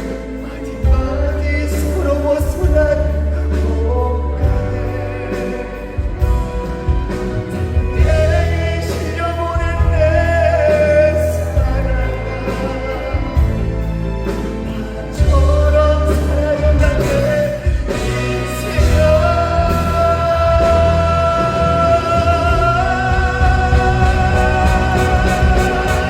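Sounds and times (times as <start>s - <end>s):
live band over sound system: 0.0s - 26.0s.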